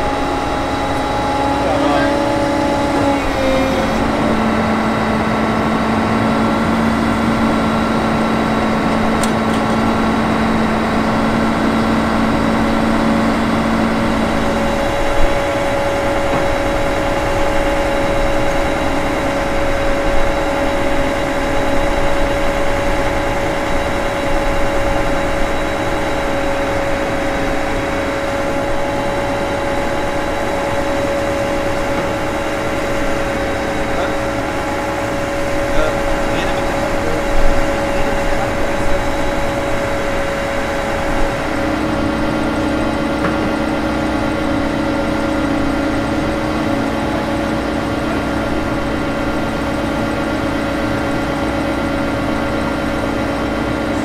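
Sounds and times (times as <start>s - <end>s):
diesel engine hum: 0.0s - 54.0s
hydraulic whine: 0.0s - 54.0s.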